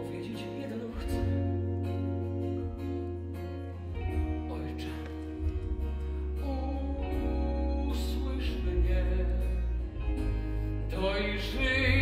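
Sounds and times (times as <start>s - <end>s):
man singing: 0.0s - 2.9s, 4.1s - 12.0s.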